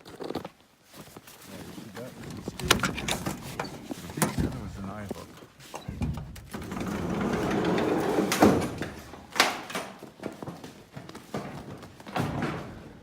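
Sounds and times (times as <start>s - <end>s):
scraping and rustling: 0.0s - 12.1s.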